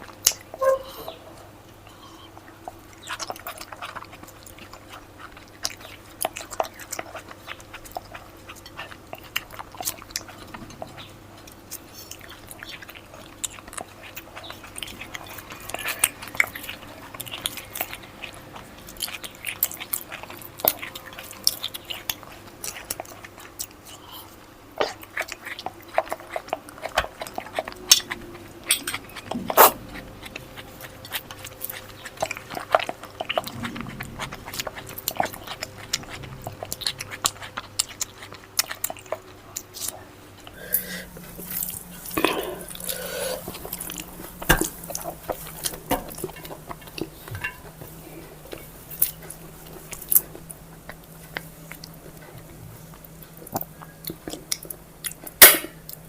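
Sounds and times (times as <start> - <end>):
person chewing and lip-smacking: 1.8 - 56.0.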